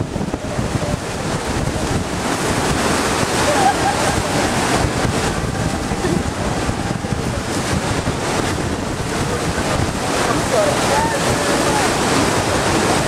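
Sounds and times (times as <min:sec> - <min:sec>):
churning water: 0:00.0 - 0:13.0
waterfall roar: 0:00.0 - 0:13.0
wind buffeting microphone: 0:00.0 - 0:13.0.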